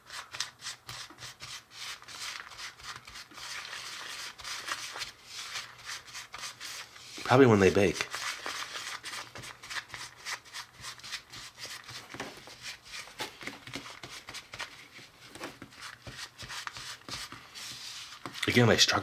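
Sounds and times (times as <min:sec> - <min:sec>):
fingers rubbing dough in plastic bowl: 0:00.0 - 0:19.0.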